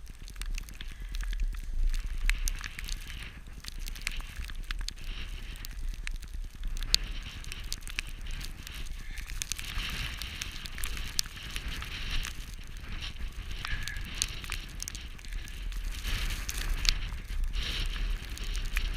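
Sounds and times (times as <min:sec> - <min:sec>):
wind noise on microphone: 0:00.0 - 0:18.9.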